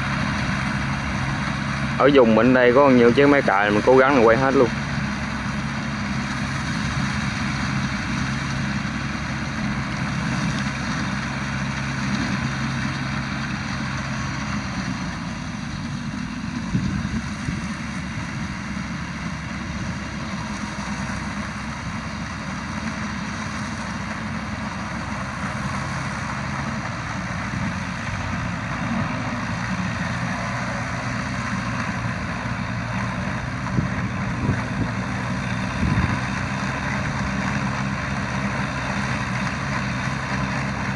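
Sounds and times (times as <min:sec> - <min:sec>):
rotary tiller churning soil: 0:00.0 - 0:40.9
tractor diesel engine under load: 0:00.0 - 0:40.9.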